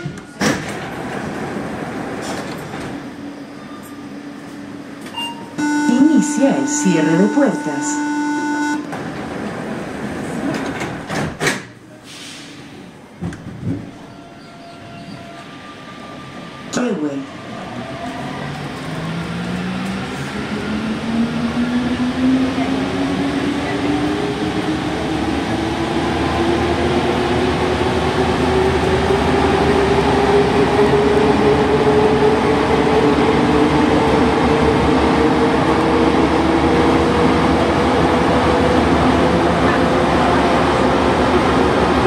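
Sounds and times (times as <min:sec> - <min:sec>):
train running noise: 0:00.0 - 0:42.0.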